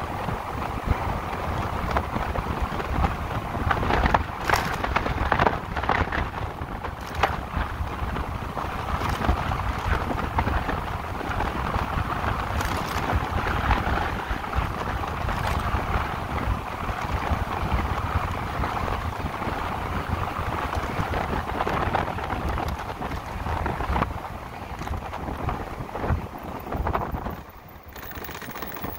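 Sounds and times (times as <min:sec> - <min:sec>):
tyre-on-road rumble: 0:00.0 - 0:28.9
wind rush over microphone: 0:00.0 - 0:28.9.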